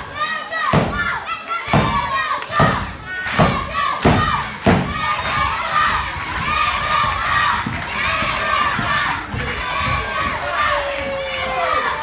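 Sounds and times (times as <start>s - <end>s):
crowd shouting: 0.0s - 12.0s.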